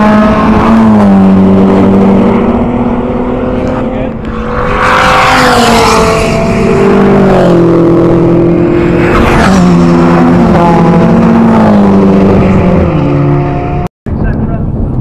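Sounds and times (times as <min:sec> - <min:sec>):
cars passing at speed: 0:00.0 - 0:13.9.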